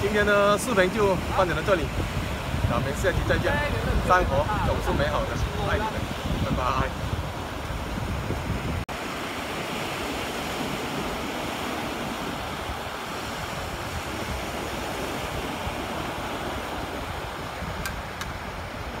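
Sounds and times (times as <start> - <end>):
sea surf: 0.0 - 19.0
wind noise: 0.0 - 19.0.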